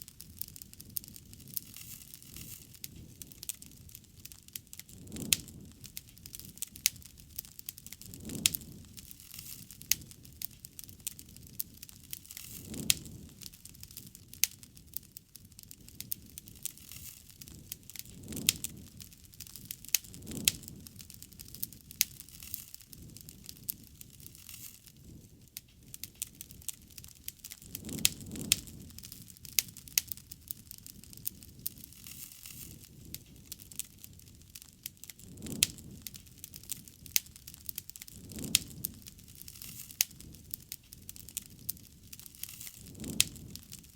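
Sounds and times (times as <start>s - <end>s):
burning wood popping and snapping: 0.0s - 43.9s
low rush of flame: 0.0s - 43.9s
wood fire crackling: 0.0s - 43.9s.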